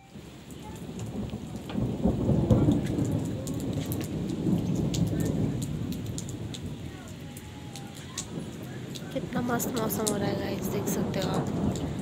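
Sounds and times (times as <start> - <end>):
rain drop ticks: 0.0 - 12.0
steady rain falling: 0.0 - 12.0.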